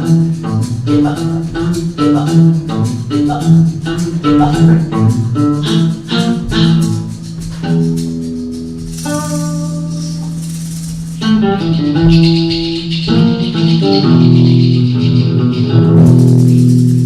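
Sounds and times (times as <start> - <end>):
melodic instrumental notes: 0.0 - 16.9
shaker percussion: 0.0 - 17.0.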